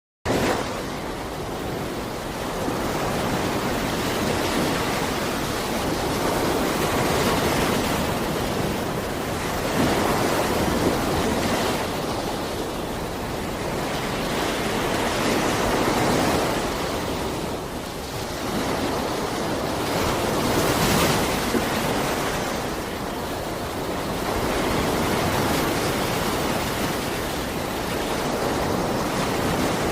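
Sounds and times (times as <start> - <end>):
waves washing onto shore: 0.3 - 29.9.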